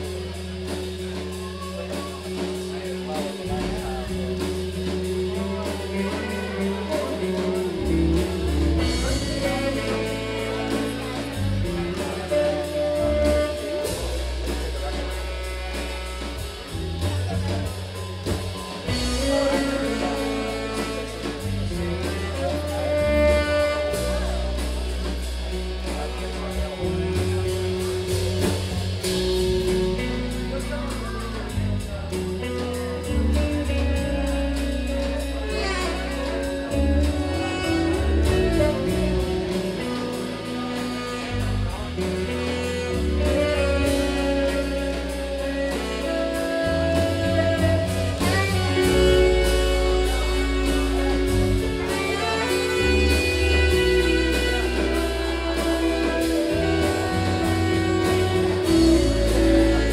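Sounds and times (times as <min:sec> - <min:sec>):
bass line: 0:00.0 - 0:59.9
drums: 0:00.0 - 0:59.9
electric guitars: 0:00.0 - 0:59.9.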